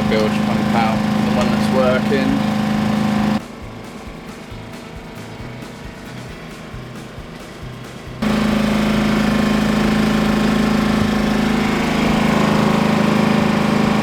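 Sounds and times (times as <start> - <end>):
engine running with even hum: 0.0 - 14.0.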